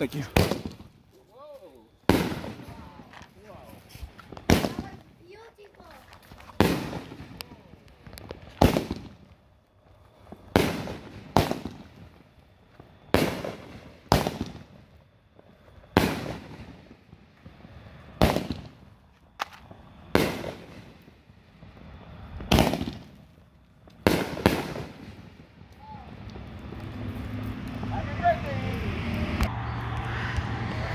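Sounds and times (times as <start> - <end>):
fireworks bangs: 0.0 - 30.9.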